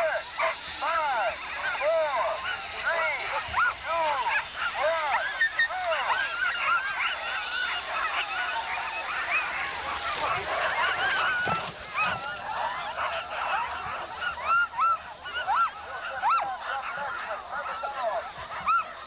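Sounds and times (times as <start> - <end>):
sled dogs yelping and barking: 0.0 - 19.0.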